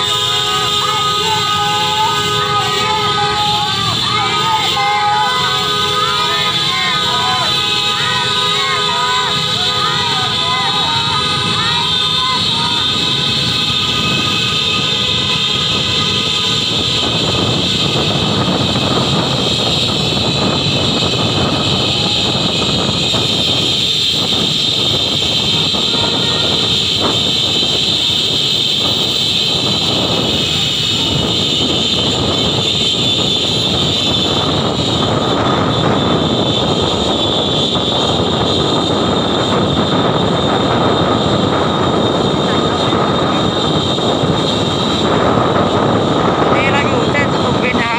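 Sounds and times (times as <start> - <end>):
car engines and tyres: 0.0 - 47.9
motorbike engines: 0.0 - 47.9.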